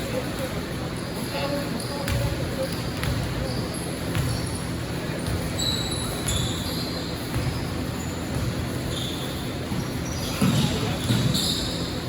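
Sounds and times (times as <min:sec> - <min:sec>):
echoing gym background noise: 0:00.0 - 0:12.0
sneakers squeaking on court: 0:00.2 - 0:12.0.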